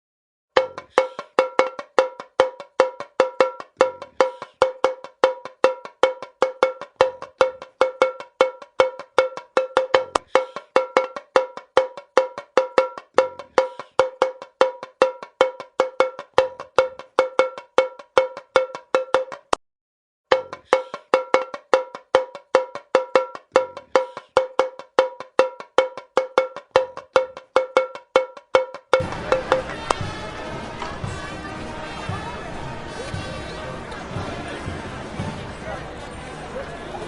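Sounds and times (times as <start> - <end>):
cowbell struck in samba rhythm: 0.5 - 19.6, 20.3 - 31.3.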